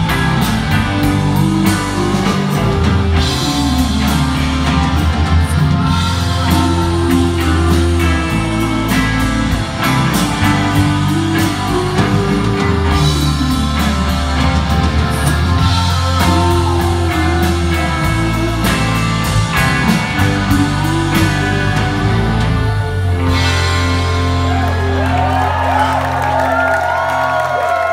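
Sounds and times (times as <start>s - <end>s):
bass guitar: 0.0s - 27.9s
drum kit: 0.0s - 27.9s
electric guitars: 0.0s - 27.9s.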